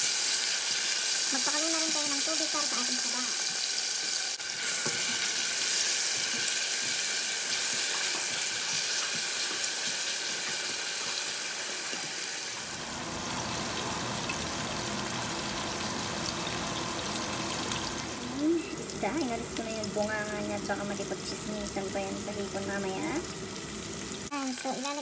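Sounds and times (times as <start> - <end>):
onions and tomatoes sizzling in oil: 0.0 - 25.0.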